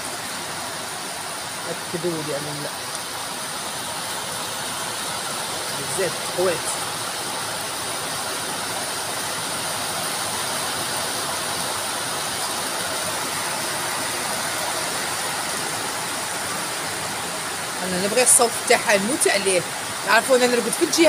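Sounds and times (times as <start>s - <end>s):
rain on a metal roof: 0.0s - 21.0s.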